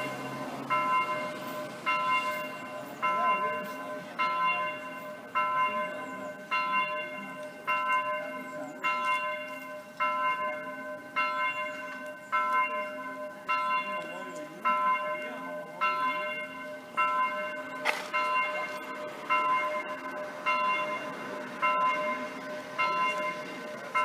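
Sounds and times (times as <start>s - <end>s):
electronic church bell striking: 0.0s - 24.0s.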